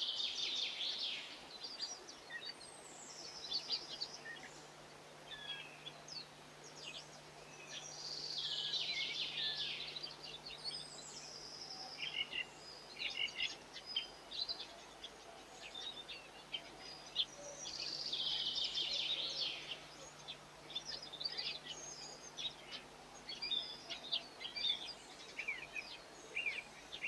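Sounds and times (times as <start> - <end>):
small birds chirping and twittering: 0.0 - 27.0.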